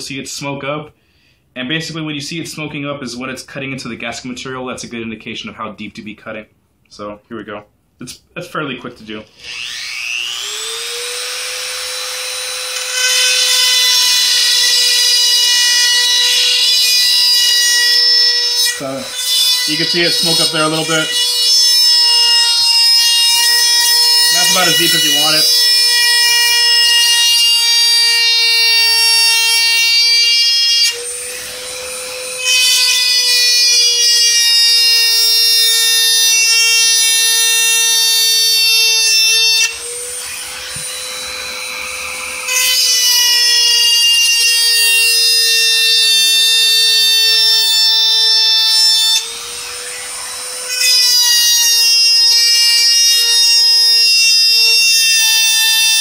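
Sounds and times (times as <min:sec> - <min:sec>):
rotary tool whining cutting plastic: 0:09.3 - 0:56.0.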